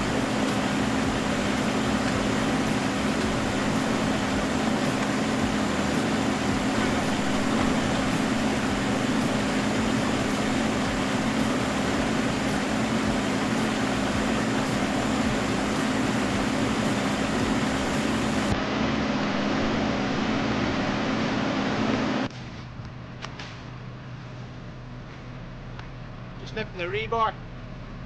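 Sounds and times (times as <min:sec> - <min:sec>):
concrete mixer lorry engine droning: 0:00.0 - 0:23.2.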